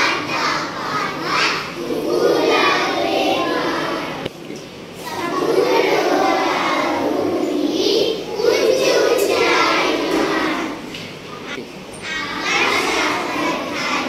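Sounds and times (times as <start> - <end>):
children chanting in unison: 0.0 - 4.2, 5.0 - 10.9, 12.1 - 14.0.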